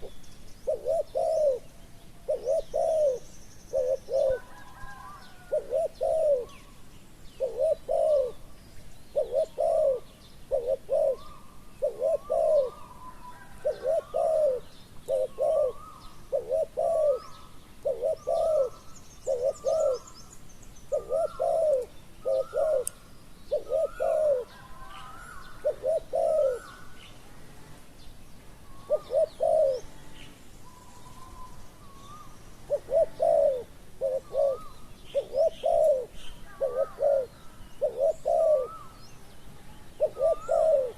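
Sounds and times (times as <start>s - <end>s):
bird chirps: 0.0s - 27.2s, 28.1s - 40.9s
doves cooing: 0.0s - 27.6s, 28.6s - 40.9s.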